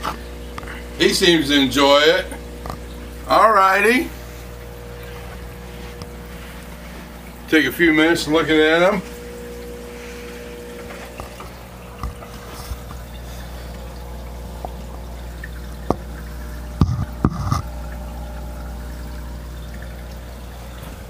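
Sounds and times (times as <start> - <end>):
aquarium water bubbling: 0.0 - 21.0
steady hum: 0.0 - 21.0.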